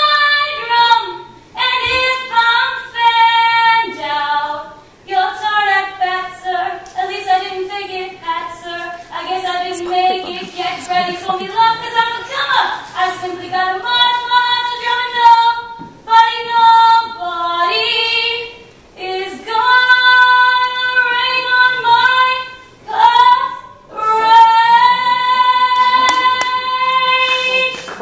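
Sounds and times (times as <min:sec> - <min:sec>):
girl singing unaccompanied: 0:00.0 - 0:27.8.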